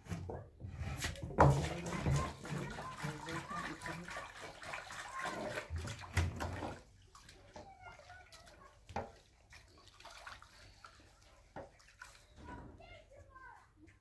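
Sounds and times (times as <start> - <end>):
water running and splashing: 1.0 - 14.0.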